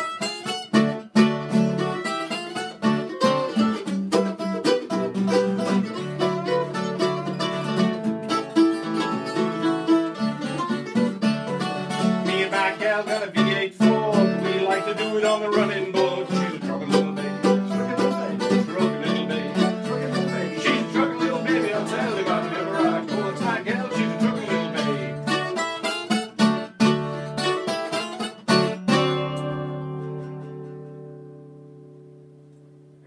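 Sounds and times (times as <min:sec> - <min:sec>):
acoustic guitar: 0:00.0 - 0:33.0
mandolin: 0:00.0 - 0:33.0.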